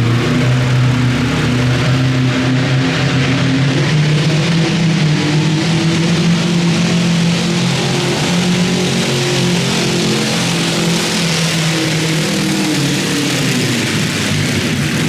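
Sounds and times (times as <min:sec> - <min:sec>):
tractor engine revving high: 0:00.0 - 0:15.0.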